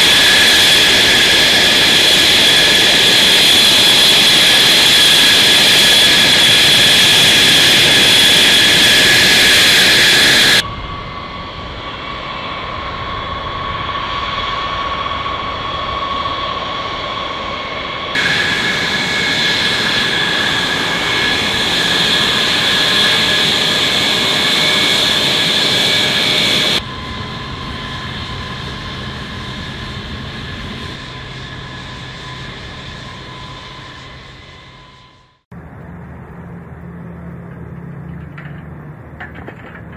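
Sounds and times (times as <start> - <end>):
jet engine whine and roar: 0.0 - 39.9.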